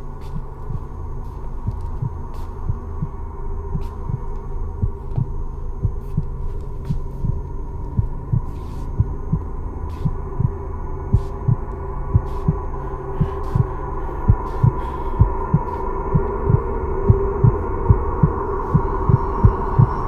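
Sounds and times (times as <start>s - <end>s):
slow heartbeat thumps: 0.0s - 20.0s
steady low hum: 0.0s - 20.0s.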